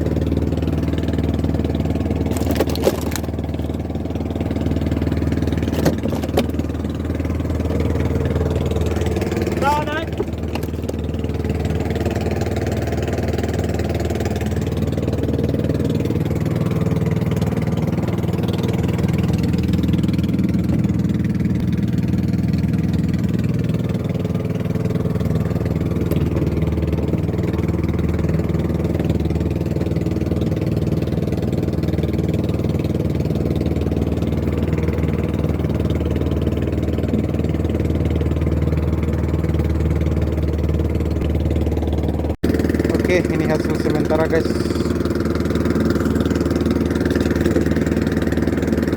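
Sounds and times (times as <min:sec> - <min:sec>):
small boat engine running: 0:00.0 - 0:48.9.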